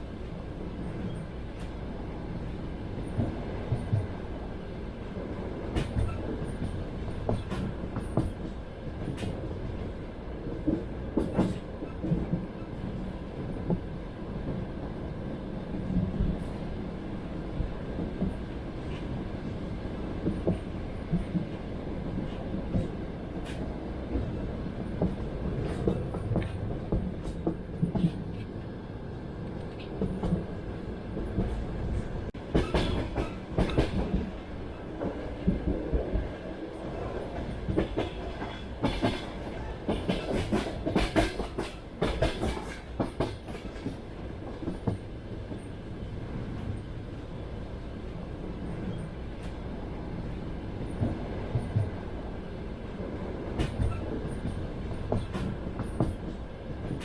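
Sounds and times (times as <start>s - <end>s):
clickety-clack of rail joints: 0.0s - 47.2s, 48.0s - 57.0s
train rumble inside carriage: 0.0s - 57.0s.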